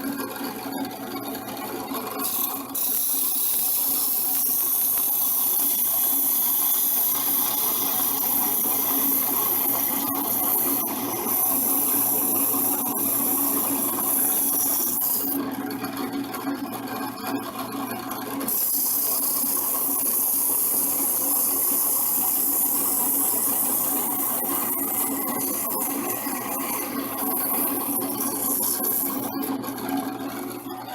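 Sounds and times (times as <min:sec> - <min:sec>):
drill press motor humming: 0:00.0 - 0:30.9.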